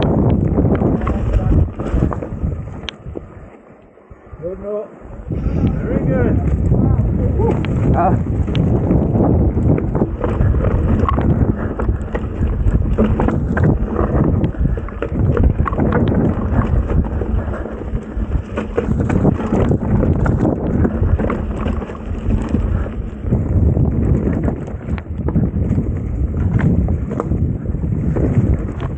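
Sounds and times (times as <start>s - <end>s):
bike knocking and rattling: 0.0s - 3.4s, 5.8s - 28.9s
tyres rolling over dirt and stones: 0.0s - 3.4s, 6.3s - 28.9s
wind buffeting microphone: 0.0s - 28.9s.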